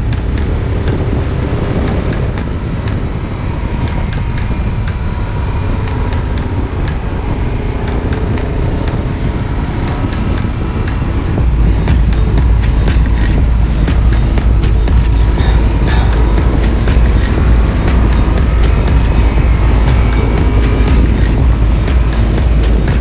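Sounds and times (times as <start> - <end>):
motorcycle engine drone: 0.0 - 23.0
wind rush on microphone: 0.0 - 23.0.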